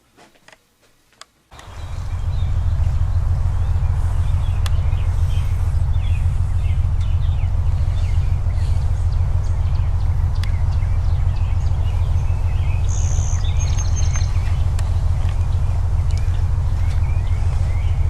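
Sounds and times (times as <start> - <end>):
birds chirping: 1.5 - 18.0
steady low rumble: 1.5 - 18.0.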